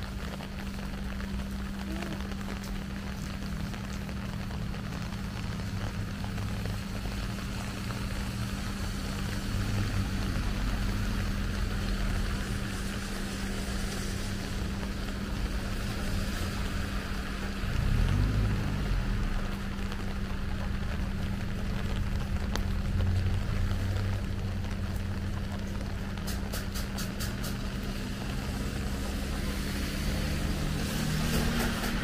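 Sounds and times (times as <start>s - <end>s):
car engines rumbling: 0.0s - 32.0s
rain and wet tyres hissing: 0.0s - 32.0s.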